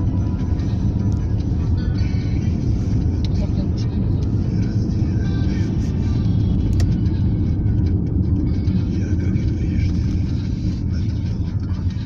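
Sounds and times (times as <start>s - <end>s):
car driving rumble from inside: 0.0s - 12.0s
faint car radio music: 0.0s - 12.0s.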